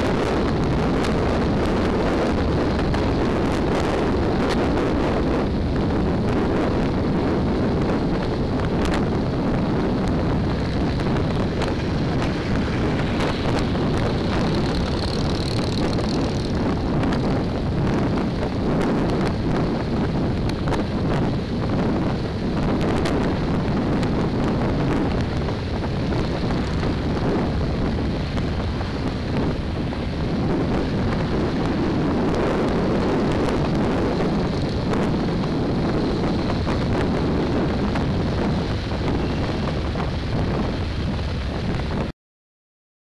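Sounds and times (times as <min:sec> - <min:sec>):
motorcycle engine running: 0:00.0 - 0:42.1
wind rushing over microphone: 0:00.0 - 0:42.1.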